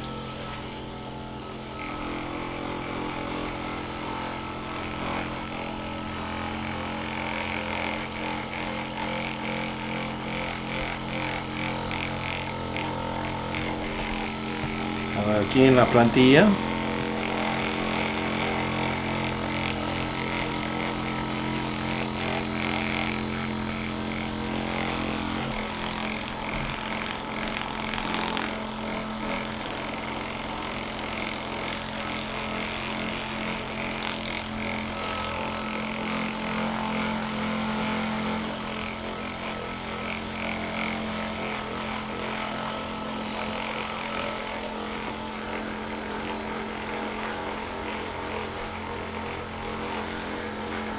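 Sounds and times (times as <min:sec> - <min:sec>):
percussion massager motor hum: 0:00.0 - 0:50.9.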